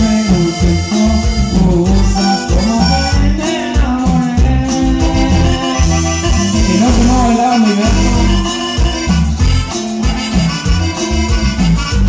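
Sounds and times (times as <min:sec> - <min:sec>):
accordion-led band dance music: 0:00.0 - 0:12.0.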